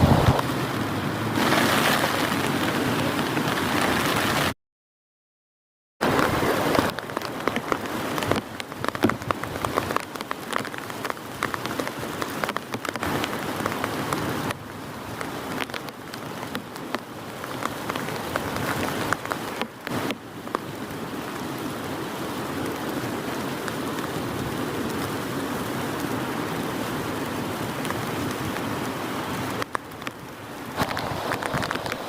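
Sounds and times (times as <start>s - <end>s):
heavy rain falling: 0.0s - 4.6s, 6.0s - 32.0s.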